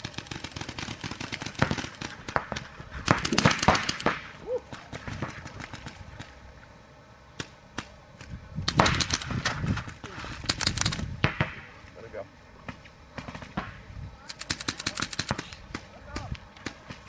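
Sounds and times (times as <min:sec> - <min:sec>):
paintball markers firing pops: 0:00.4 - 0:06.4, 0:07.4 - 0:11.6, 0:12.7 - 0:17.0.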